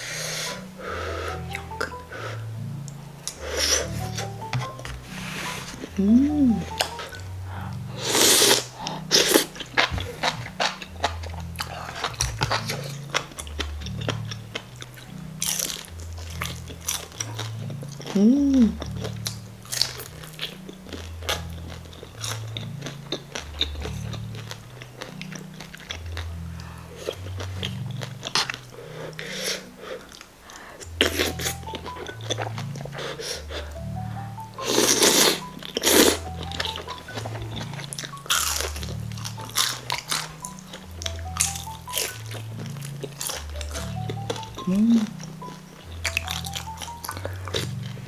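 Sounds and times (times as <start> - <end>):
soft background music: 0.0 - 48.0
crunching and chewing fried food: 0.2 - 48.0.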